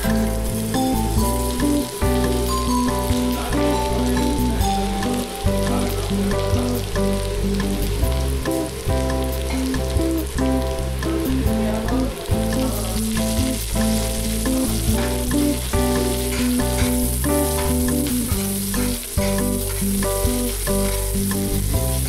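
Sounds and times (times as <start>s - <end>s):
background music: 0.0s - 22.0s
food sizzling in hot oil: 0.0s - 22.0s.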